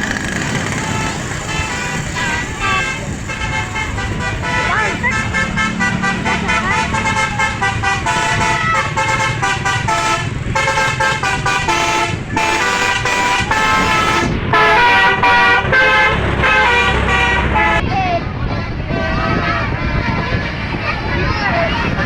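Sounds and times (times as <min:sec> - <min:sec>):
bus musical horn tune: 0:00.0 - 0:17.8.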